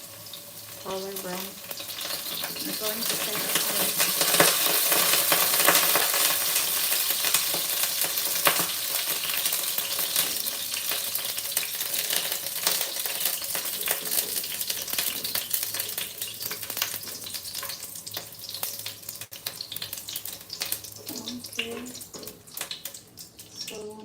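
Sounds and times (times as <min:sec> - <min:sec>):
carrots sizzling in hot oil: 0:00.0 - 0:24.0.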